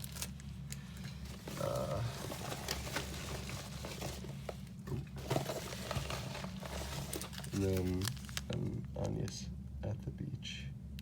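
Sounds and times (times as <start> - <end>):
packaging rustling and crinkling: 0.0 - 9.0.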